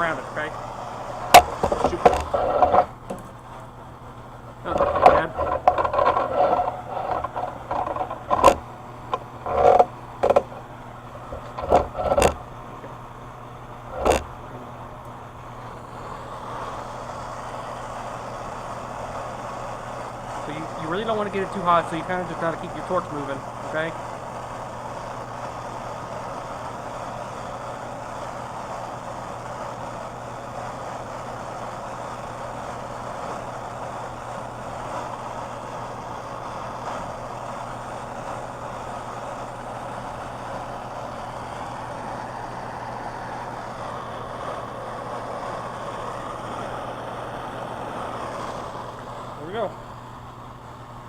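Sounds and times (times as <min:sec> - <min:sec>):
gas torch flame hissing: 0:00.0 - 0:51.0.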